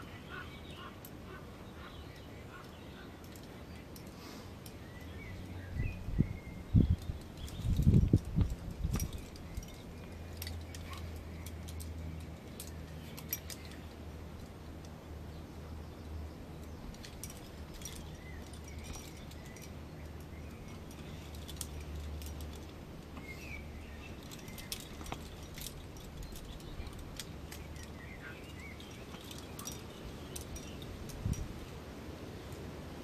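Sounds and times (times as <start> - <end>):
birds chirping: 0.0 - 31.8
low wind rumble: 0.0 - 33.0.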